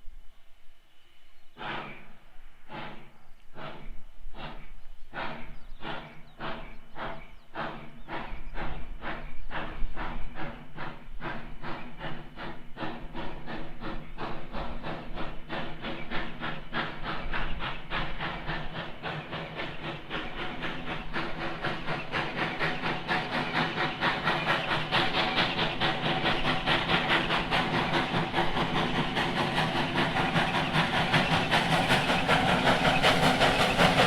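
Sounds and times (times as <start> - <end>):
steam locomotive chuffing: 1.4 - 34.0.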